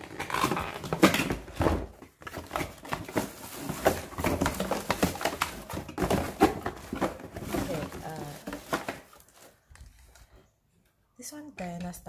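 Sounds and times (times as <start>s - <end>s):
cardboard and plastic rustling: 0.0s - 10.4s.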